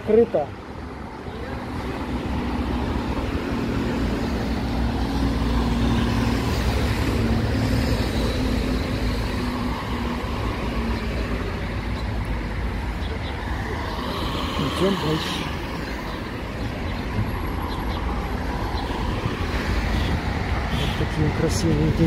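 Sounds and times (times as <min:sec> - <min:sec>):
road traffic: 0:00.0 - 0:22.0.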